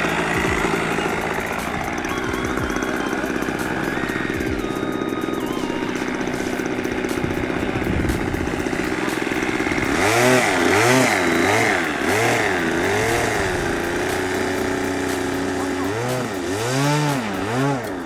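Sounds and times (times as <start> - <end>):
model plane engine idling and revving: 0.0 - 18.0.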